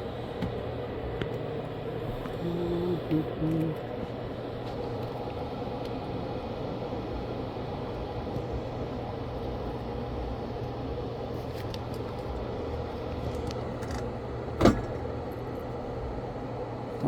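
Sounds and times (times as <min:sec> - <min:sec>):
fan-like hum and hiss: 0:00.0 - 0:17.0.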